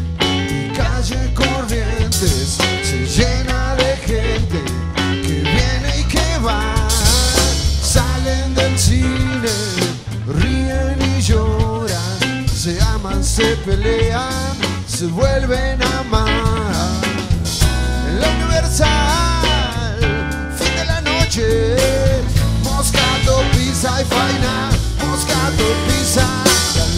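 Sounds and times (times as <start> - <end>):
bending lead melody: 0.0 - 26.9
drum kit: 0.0 - 26.9
strummed guitars: 0.0 - 26.9.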